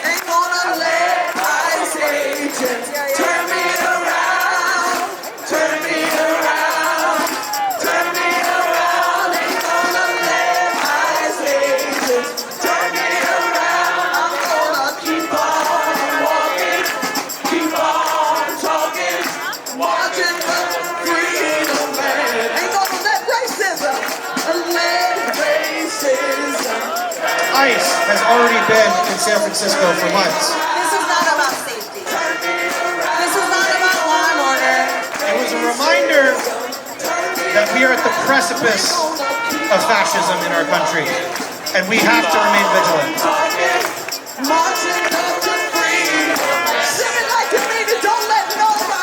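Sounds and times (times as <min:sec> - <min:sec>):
crowd singing together: 0:00.0 - 0:49.0
percussion beat: 0:00.0 - 0:49.0.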